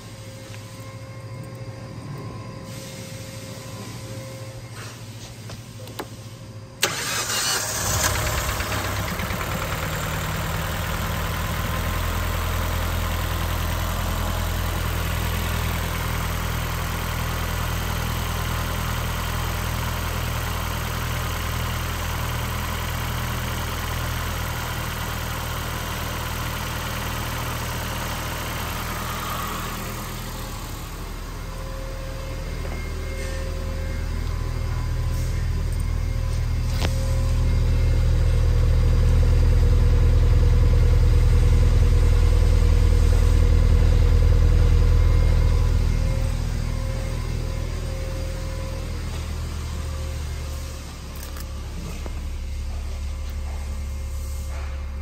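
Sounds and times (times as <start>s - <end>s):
car engine starting and idling: 6.8s - 55.0s.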